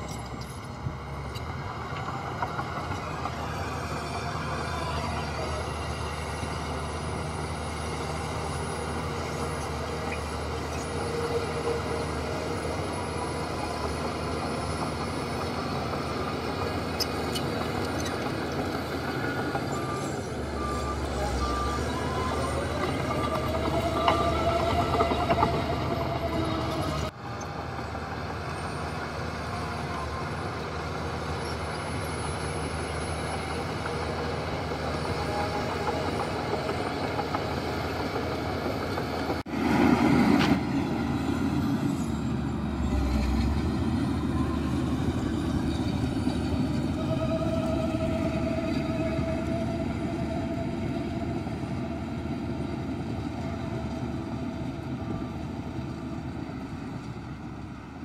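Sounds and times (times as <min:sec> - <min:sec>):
diesel earthmoving machinery running: 0:00.0 - 0:58.0.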